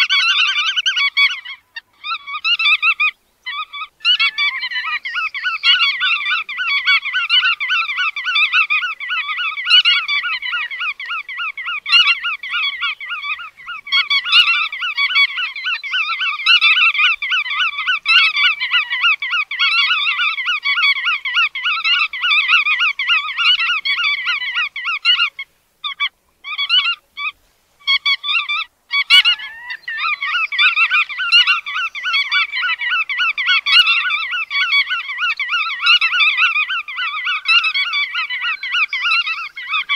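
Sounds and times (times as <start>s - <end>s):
flock of shorebirds calling: 0.0s - 39.9s.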